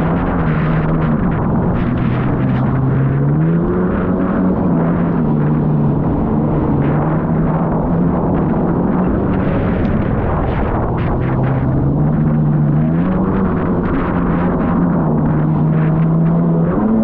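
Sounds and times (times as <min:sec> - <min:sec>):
jet ski engine running hard: 0:00.0 - 0:17.0
water noise: 0:00.0 - 0:17.0.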